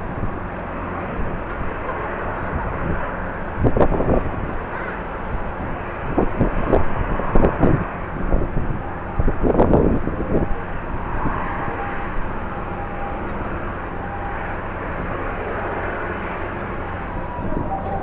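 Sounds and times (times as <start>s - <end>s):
jet engines rushing with whine: 0.0s - 18.0s.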